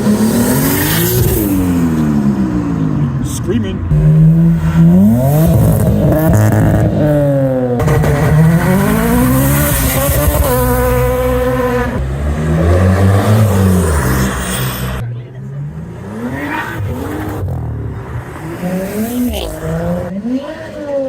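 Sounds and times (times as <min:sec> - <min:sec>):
car engine revving hard: 0:00.0 - 0:03.2, 0:03.9 - 0:21.0.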